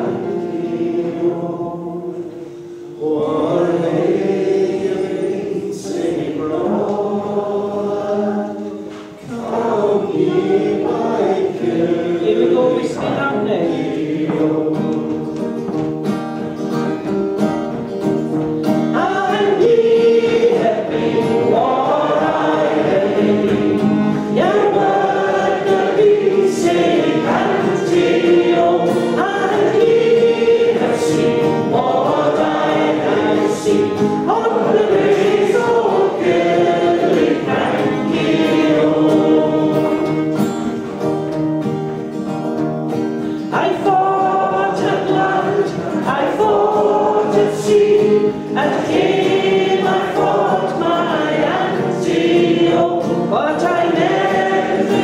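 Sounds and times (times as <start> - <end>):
group singing together: 0.0 - 41.4, 42.6 - 55.0
acoustic guitar: 0.0 - 55.0.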